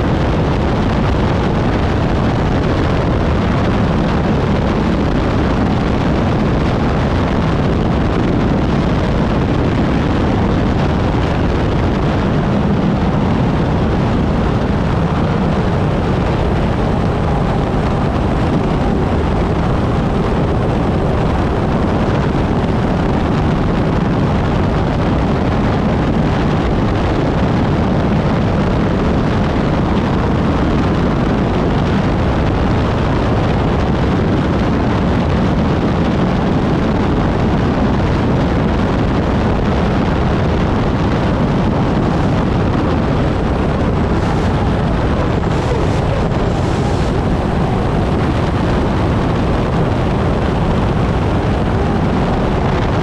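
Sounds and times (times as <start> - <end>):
turbine engine running: 0.0 - 53.0
wind noise: 0.0 - 53.0.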